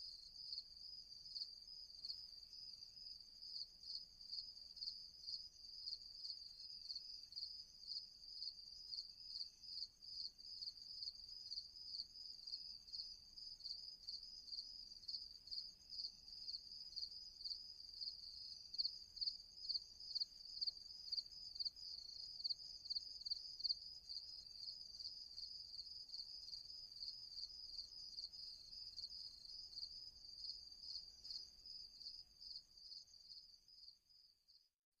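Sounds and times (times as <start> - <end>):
crickets chirping: 0.0 - 34.6.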